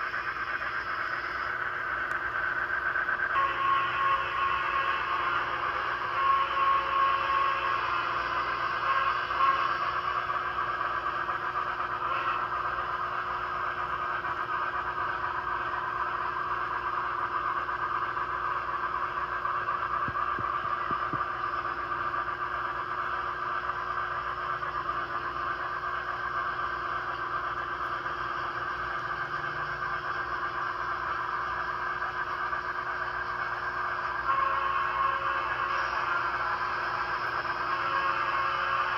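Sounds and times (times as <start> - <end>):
model train whirring: 0.0 - 38.9.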